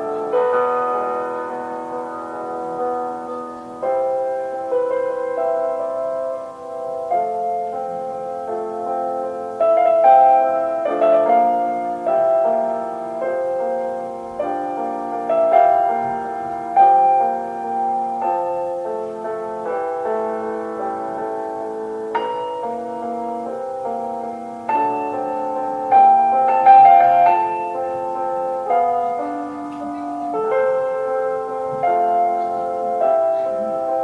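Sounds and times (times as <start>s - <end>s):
slow gentle piano piece: 0.0s - 34.0s.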